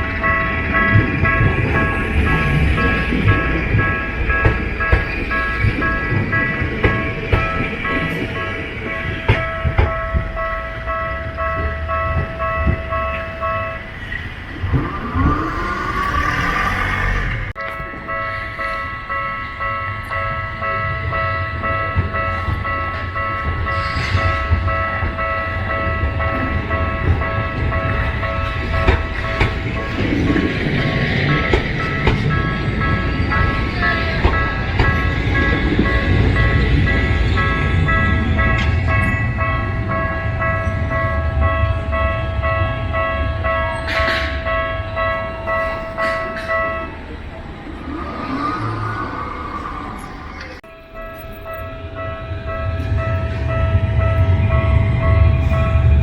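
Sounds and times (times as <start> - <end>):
level crossing bell clanging: 0.0 - 56.0
tram rumble: 0.0 - 56.0.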